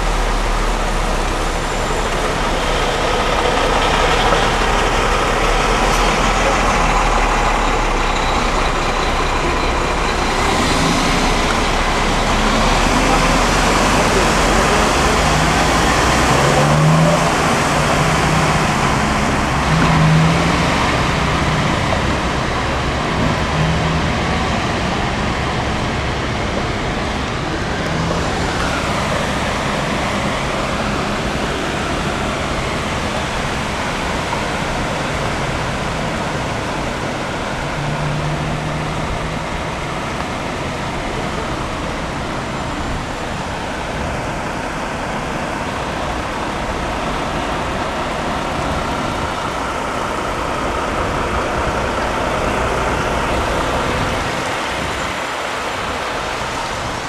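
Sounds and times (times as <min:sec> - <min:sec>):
heavy vehicle engine hum: 0:00.0 - 0:57.0
traffic driving through water: 0:00.0 - 0:57.0.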